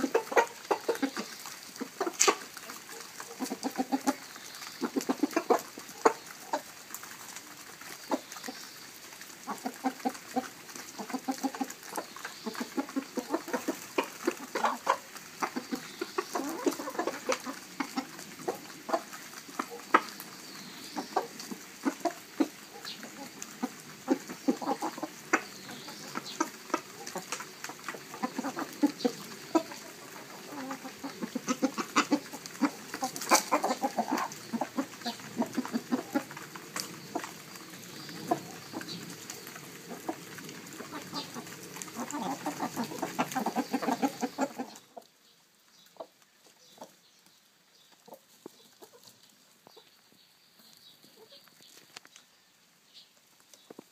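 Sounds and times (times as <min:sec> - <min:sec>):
hens clucking: 0:00.0 - 0:47.0, 0:47.8 - 0:52.1, 0:53.4 - 0:53.9
beaks pecking at grain: 0:00.0 - 0:52.4, 0:53.0 - 0:53.9.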